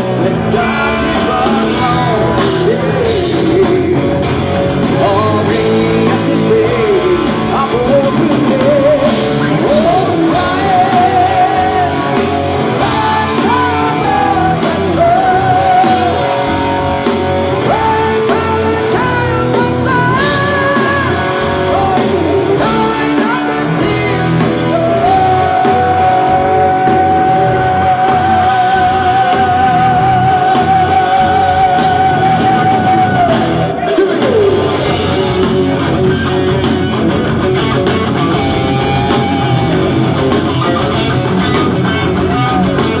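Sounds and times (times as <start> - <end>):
distorted guitars: 0.0 - 43.0
drums: 0.0 - 43.0.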